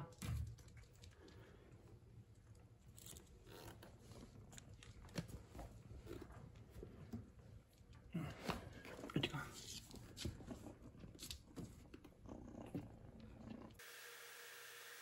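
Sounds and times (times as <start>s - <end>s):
faint clicks and rustles: 0.2s - 13.8s.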